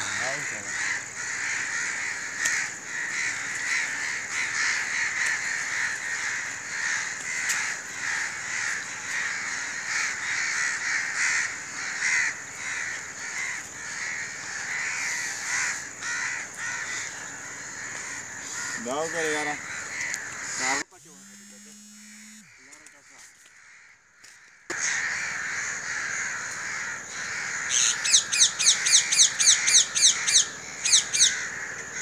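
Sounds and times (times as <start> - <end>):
crows cawing: 0.0 - 20.9, 22.0 - 32.0.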